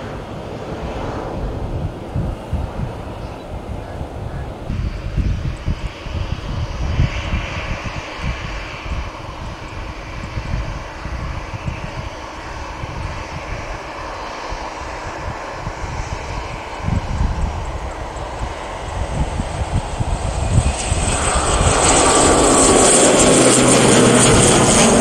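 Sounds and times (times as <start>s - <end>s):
airliner engine roar: 0.0s - 25.0s
wind gusting on microphone: 0.0s - 25.0s.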